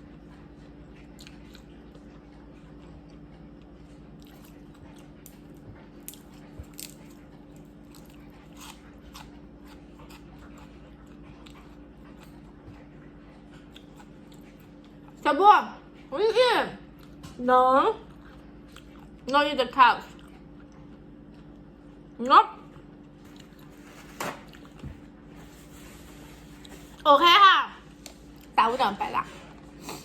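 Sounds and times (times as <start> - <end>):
chewing and crunching: 0.0 - 30.0
steady low hum: 0.0 - 30.0.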